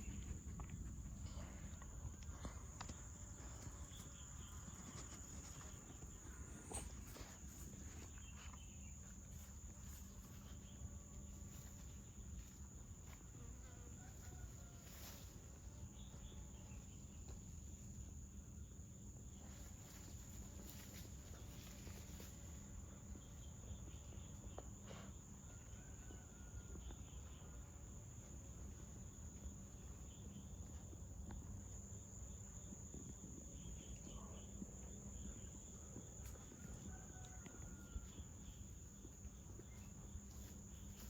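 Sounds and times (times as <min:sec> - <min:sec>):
insects trilling: 0:00.0 - 0:41.0.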